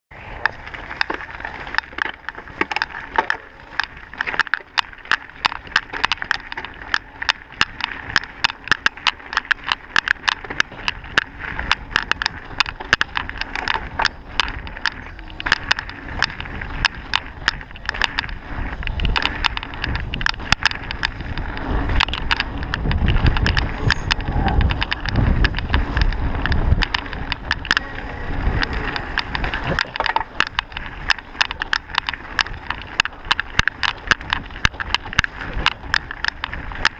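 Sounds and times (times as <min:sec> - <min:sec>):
mountain bike rattling on dirt trail: 0:00.1 - 0:36.9
wind rumble on microphone: 0:00.1 - 0:36.9
sharp clicks: 0:00.4 - 0:36.9.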